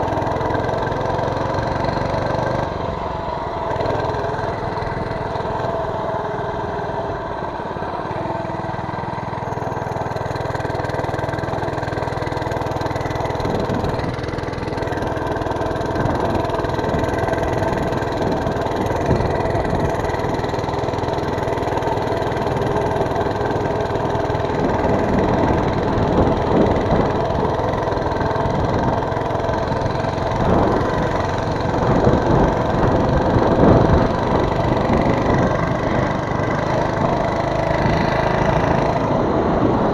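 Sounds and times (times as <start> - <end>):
small bike engine running: 0.0 - 39.9.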